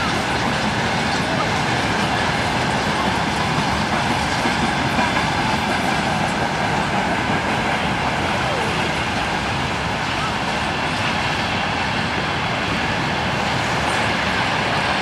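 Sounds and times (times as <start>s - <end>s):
freight train wheels rolling: 0.0s - 15.0s.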